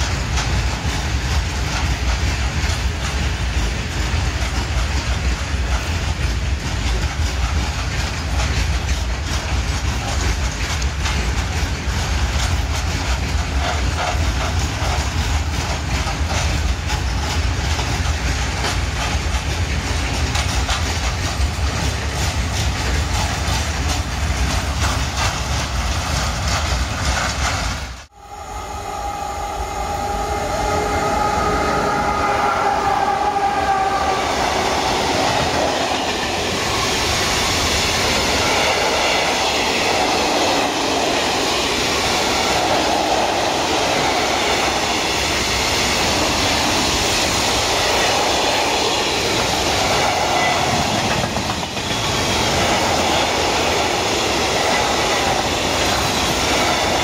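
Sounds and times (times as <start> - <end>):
wheels clicking over rail joints: 0.0 - 28.1, 33.4 - 57.0
electric locomotive whine: 0.0 - 57.0
freight train rumbling past: 0.0 - 57.0.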